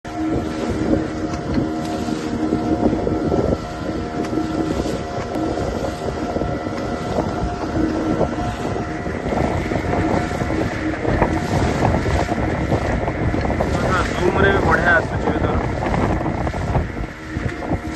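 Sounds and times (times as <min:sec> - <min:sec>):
boat engine droning: 0:00.0 - 0:17.9
wind buffeting microphone: 0:00.0 - 0:17.9.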